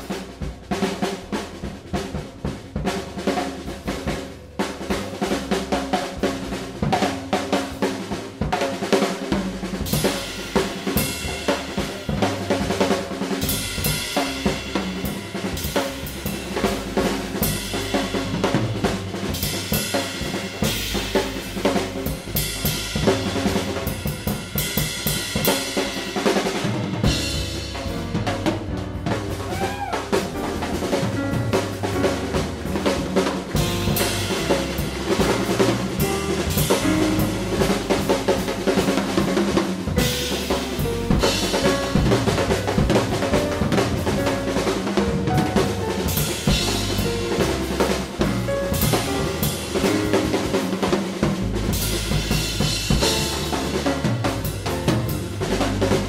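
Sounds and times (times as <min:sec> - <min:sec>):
drum beat: 0:00.0 - 0:56.0.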